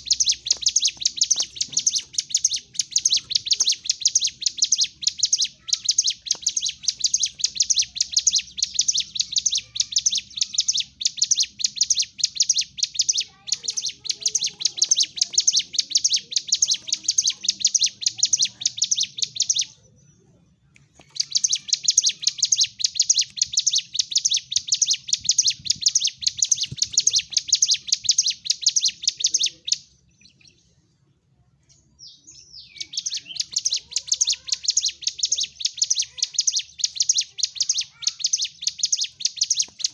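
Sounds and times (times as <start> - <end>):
prinia shrill chattering song: 0.0 - 20.1, 20.7 - 30.8, 31.6 - 39.9.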